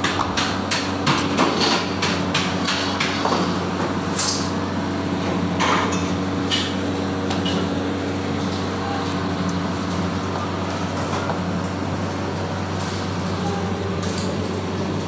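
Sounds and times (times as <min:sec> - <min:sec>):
kitchen machinery humming: 0:00.0 - 0:15.0.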